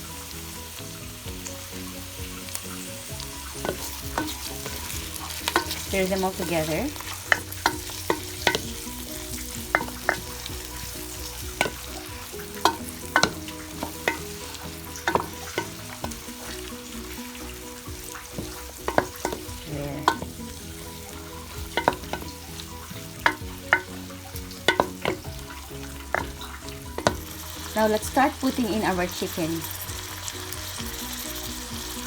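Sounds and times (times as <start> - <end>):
vegetables sizzling in oil: 0.0 - 32.0
utensil scraping pan: 3.2 - 28.9.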